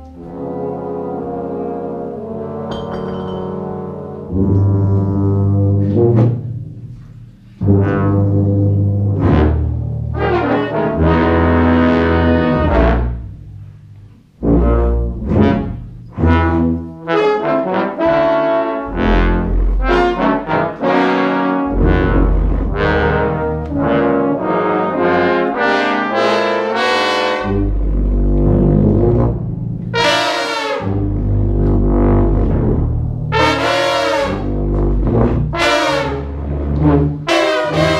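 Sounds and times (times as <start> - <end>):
brass and saxophone band playing: 0.0 - 2.8, 3.4 - 13.6, 14.4 - 37.9.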